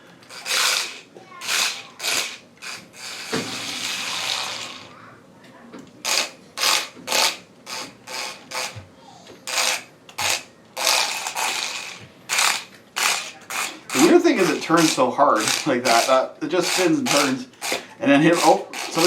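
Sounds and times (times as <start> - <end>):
toy car motor whirring: 0.3 - 4.9, 6.0 - 8.8, 9.4 - 19.0.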